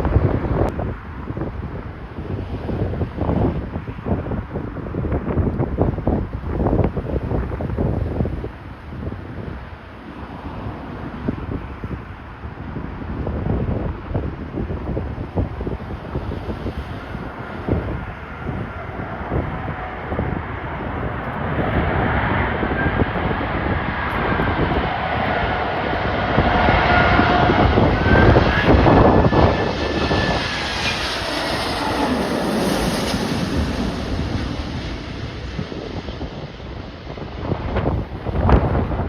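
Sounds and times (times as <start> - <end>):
jet airliner passing: 0.0 - 39.0
wind buffeting microphone: 0.0 - 39.0.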